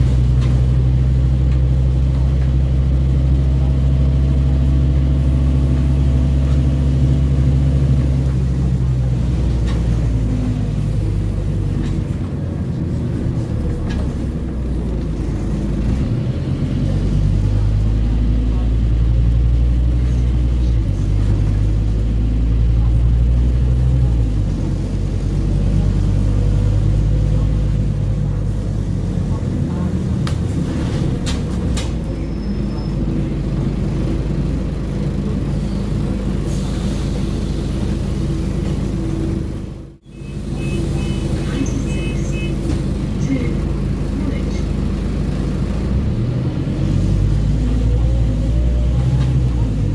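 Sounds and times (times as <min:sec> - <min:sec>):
bus engine droning: 0:00.0 - 0:49.9
road noise: 0:00.0 - 0:49.9.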